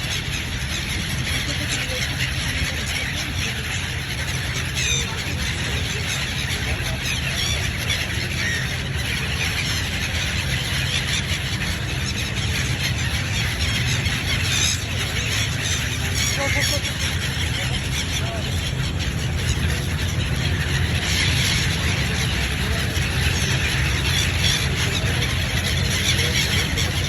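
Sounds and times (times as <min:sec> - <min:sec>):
birds chirping: 0:00.0 - 0:27.0
low background rumble: 0:00.0 - 0:27.0.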